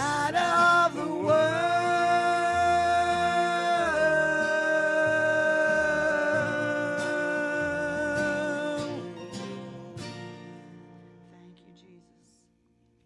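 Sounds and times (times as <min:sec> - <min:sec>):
gospel singing: 0:00.0 - 0:10.8
instrumental accompaniment: 0:00.0 - 0:11.3.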